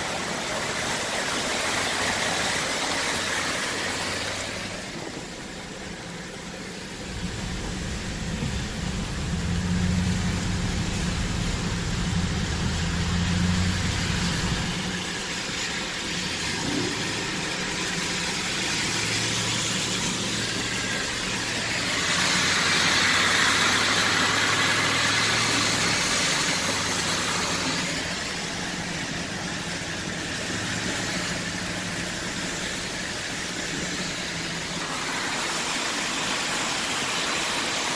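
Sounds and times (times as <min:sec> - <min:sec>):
car engine humming: 0:00.0 - 0:37.9
hiss of wet weather: 0:00.0 - 0:37.9.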